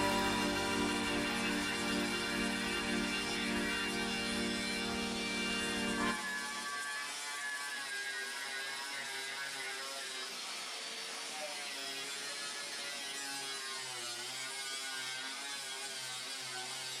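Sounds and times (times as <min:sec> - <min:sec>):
electric power tool running: 0:00.0 - 0:17.0.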